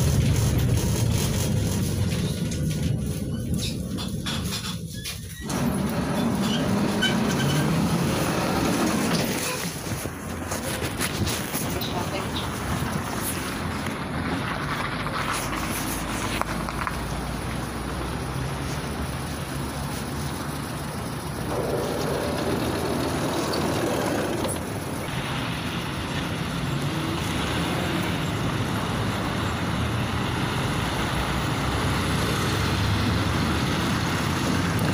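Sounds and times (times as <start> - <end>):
road traffic: 0.0 - 34.9
tram motors and running gear: 0.0 - 34.9.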